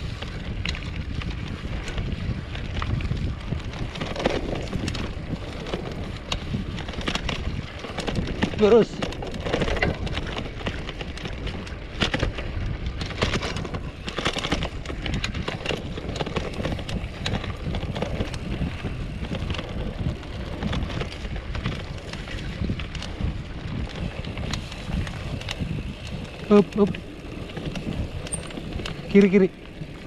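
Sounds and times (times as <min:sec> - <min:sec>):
bike rattles and clicks: 0:00.0 - 0:30.0
bike tyres rumbling on dirt: 0:00.0 - 0:30.0
wind buffeting microphone: 0:00.0 - 0:30.0.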